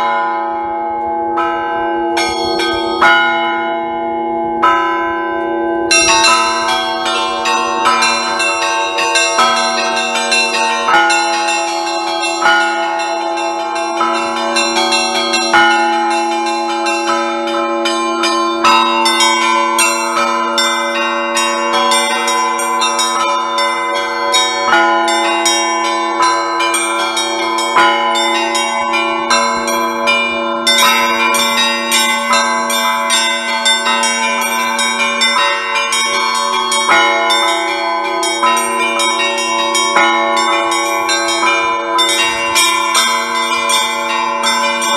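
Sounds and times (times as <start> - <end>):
large bells ringing: 0.0 - 44.9.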